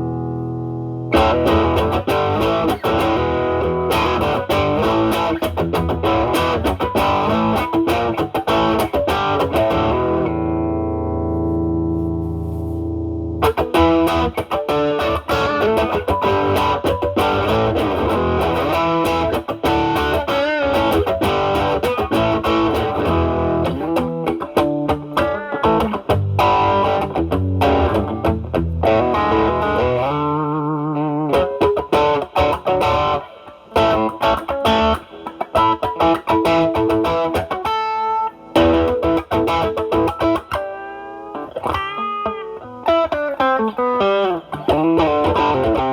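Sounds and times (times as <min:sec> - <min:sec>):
distorted electric guitar lead: 0:00.0 - 0:45.9.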